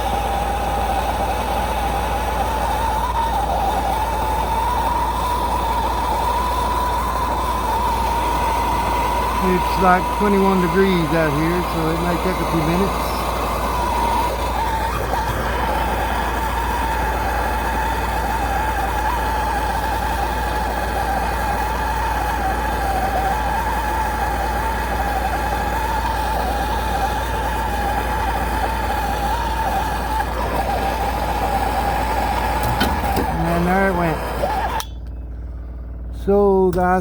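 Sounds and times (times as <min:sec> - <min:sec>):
torch flame hissing: 0:00.0 - 0:34.9.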